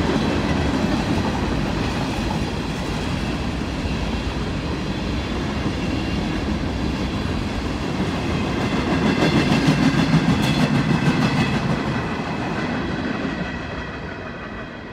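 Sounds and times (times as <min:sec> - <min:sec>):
freight train rumbling past: 0:00.0 - 0:14.9.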